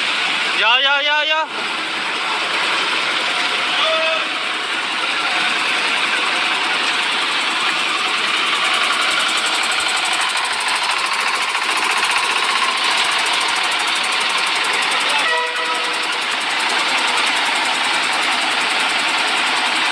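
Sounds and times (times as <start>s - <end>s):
truck diesel engine clattering: 0.0s - 19.9s.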